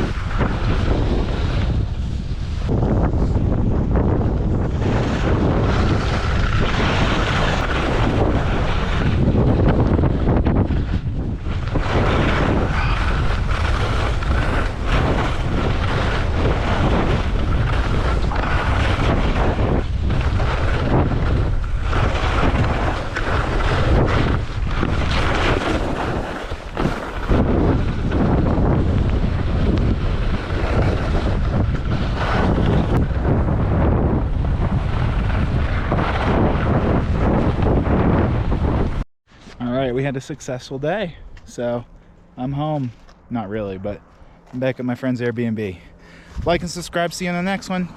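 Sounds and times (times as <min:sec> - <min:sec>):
wind buffeting microphone: 0:00.0 - 0:39.1, 0:39.9 - 0:47.9.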